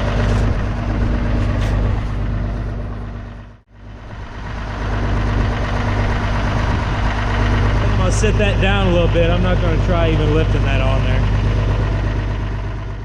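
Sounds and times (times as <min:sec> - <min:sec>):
heavy engine idling: 0:00.0 - 0:13.0.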